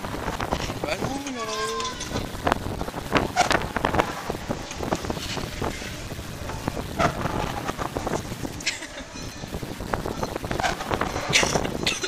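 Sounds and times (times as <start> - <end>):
knocks and rattles: 0.0 - 12.0
wind on microphone: 0.0 - 12.0.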